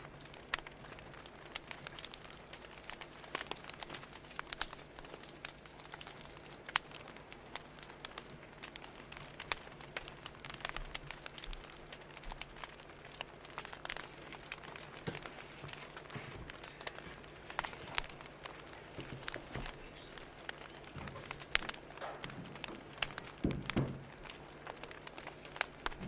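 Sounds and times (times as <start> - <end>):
faint low hum: 0.0 - 26.0
wood fire crackling: 0.0 - 26.0.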